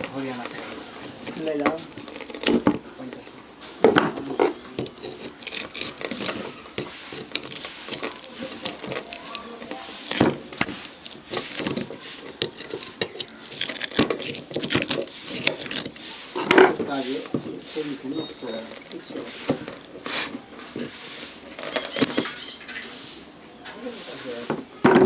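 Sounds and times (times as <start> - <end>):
metallic clicks and scrapes: 0.0 - 24.5.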